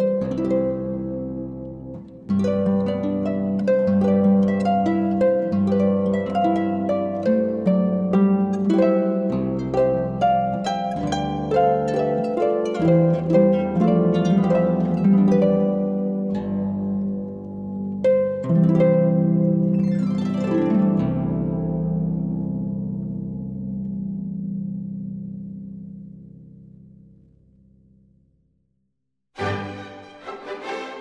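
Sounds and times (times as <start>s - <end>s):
plucked string instrumental music: 0.0s - 27.5s, 29.4s - 31.0s.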